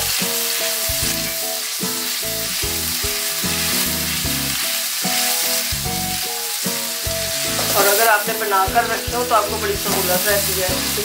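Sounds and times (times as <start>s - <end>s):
background music: 0.0s - 11.0s
hot oil sizzling: 0.0s - 11.0s.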